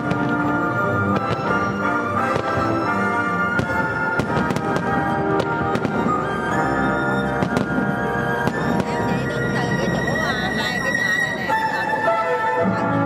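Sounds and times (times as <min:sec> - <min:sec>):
fireworks bursting: 0:00.0 - 0:12.0
music playing: 0:00.0 - 0:13.0.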